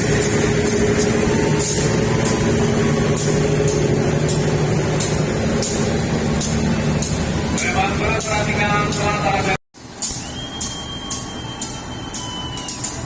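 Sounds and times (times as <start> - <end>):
train engine drone: 0.0 - 13.0.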